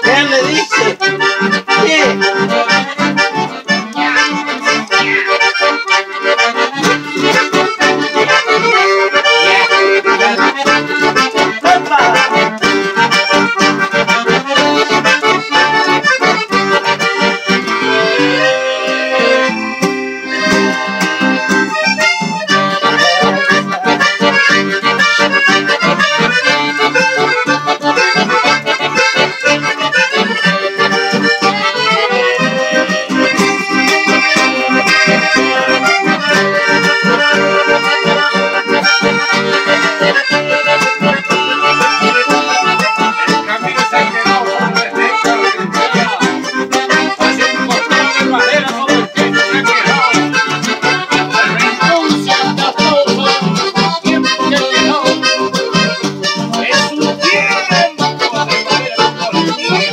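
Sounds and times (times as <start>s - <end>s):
accordions playing a tune: 0.0s - 59.9s.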